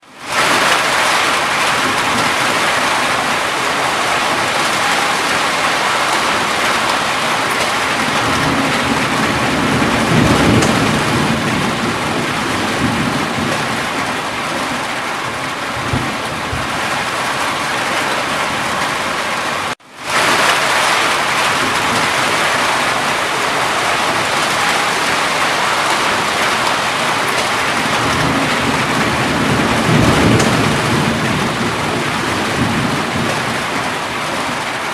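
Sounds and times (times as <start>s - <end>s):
heavy rain falling: 0.0s - 34.9s
thunder rumbles: 0.3s - 34.9s.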